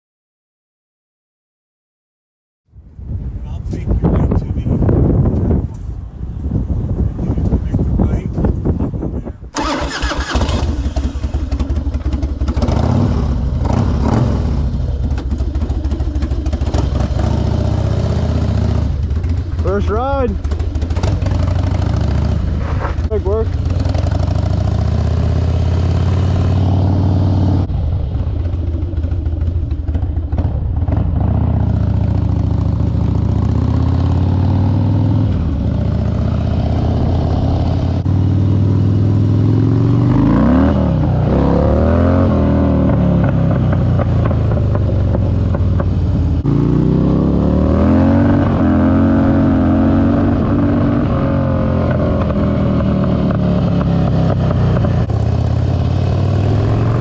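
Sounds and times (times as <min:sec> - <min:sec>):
motorcycle engine revving: 0:09.5 - 0:57.0.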